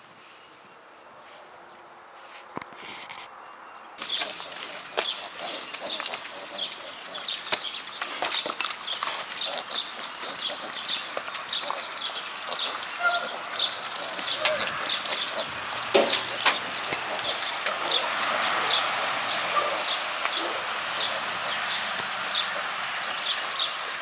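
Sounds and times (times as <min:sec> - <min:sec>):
pigs squeaking: 0:04.0 - 0:24.0.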